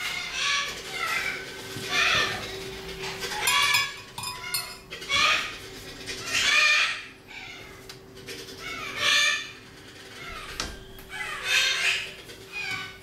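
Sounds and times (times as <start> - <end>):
parrots squawking: 0.0 - 7.8, 8.5 - 13.0.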